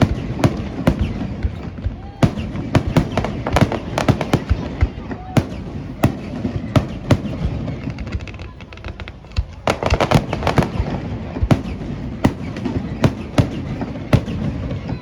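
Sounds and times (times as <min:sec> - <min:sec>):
fast firework crackling: 0:00.0 - 0:15.0
firework shells bursting: 0:00.0 - 0:15.0.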